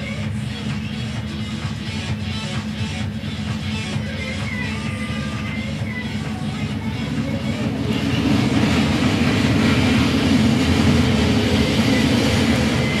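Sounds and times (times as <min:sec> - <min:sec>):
diesel locomotive rumble: 0:00.0 - 0:13.0
rail noise from moving train: 0:00.0 - 0:13.0.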